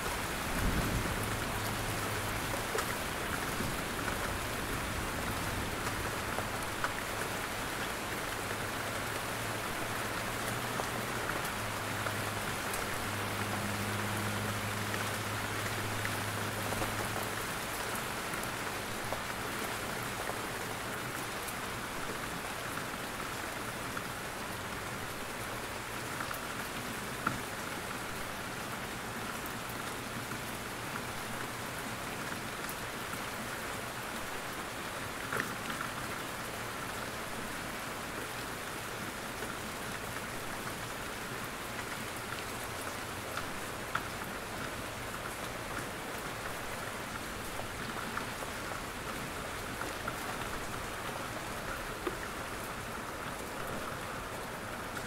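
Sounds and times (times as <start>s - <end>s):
rain dripping from trees: 0.0s - 55.0s.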